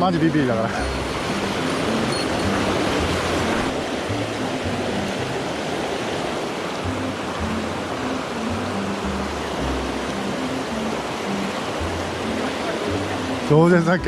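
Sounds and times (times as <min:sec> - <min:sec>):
background music low notes: 0:00.0 - 0:14.0
stream rushing over rocks: 0:00.0 - 0:14.0.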